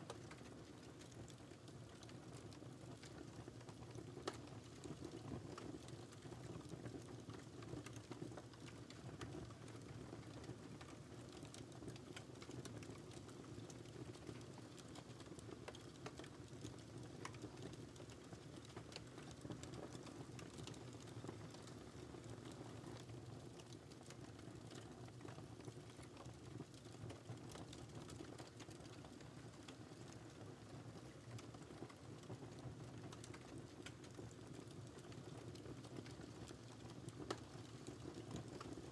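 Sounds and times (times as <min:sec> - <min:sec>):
low rumble of burning: 0:00.0 - 0:38.9
fire crackling: 0:00.1 - 0:38.9.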